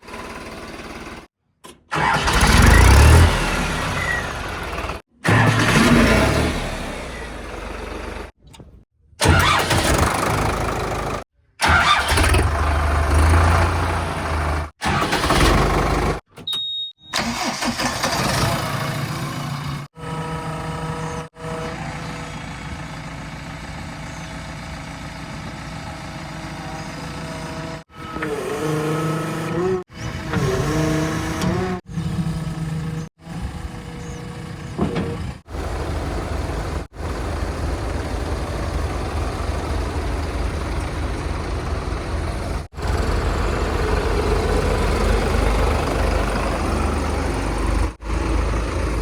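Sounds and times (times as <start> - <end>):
diesel engines revving: 1.9 - 8.4, 9.2 - 16.2, 17.2 - 49.0.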